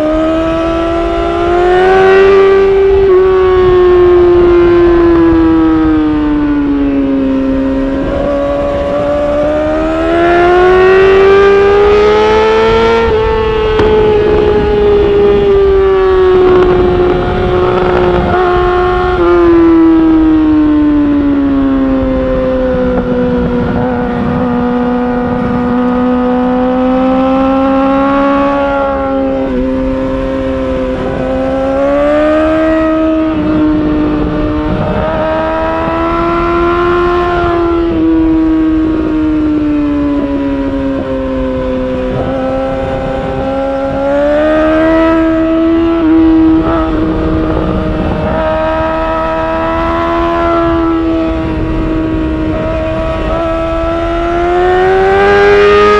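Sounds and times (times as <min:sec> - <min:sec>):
motorcycle engine revving and shifting: 0:00.0 - 0:55.9.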